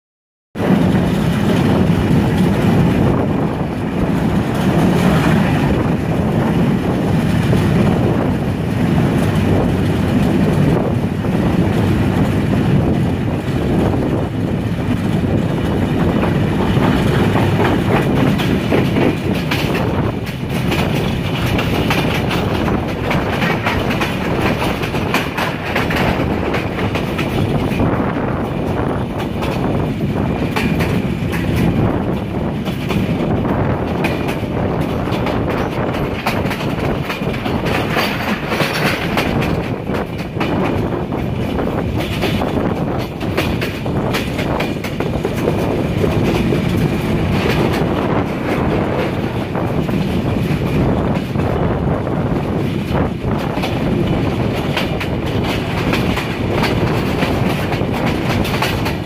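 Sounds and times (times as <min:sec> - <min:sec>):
clickety-clack over rail joints: 0:00.6 - 0:59.0
train wheels rumbling on track: 0:00.6 - 0:59.0.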